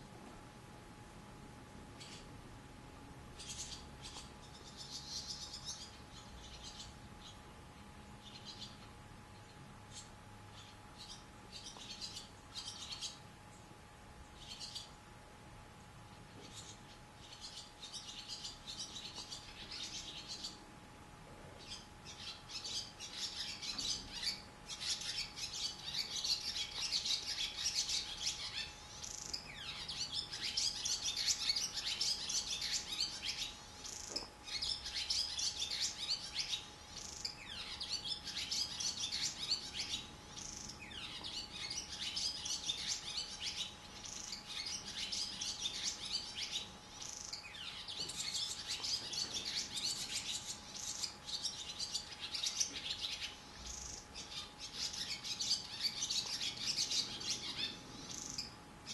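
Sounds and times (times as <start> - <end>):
swallows twittering: 2.0 - 2.3, 3.4 - 13.6, 14.3 - 15.0, 16.4 - 20.6, 21.6 - 58.9.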